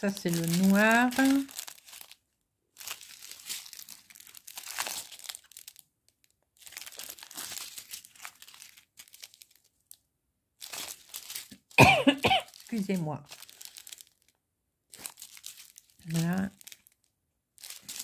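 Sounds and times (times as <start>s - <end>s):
plastic bags crinkling: 0.0s - 10.0s, 10.6s - 18.0s.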